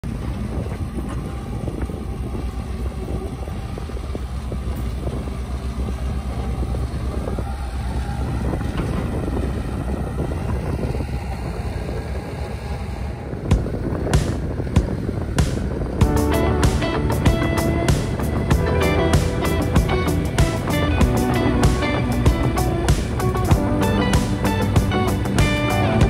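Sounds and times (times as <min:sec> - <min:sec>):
tractor diesel engine running: 0:00.0 - 0:26.0
wind buffeting microphone: 0:00.0 - 0:26.0.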